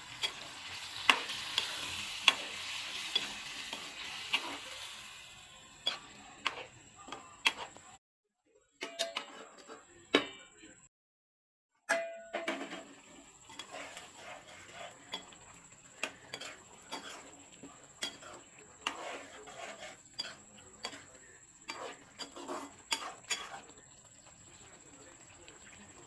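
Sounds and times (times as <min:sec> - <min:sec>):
utensils clinking against cookware: 0:00.0 - 0:08.0, 0:08.8 - 0:10.4, 0:11.9 - 0:26.0.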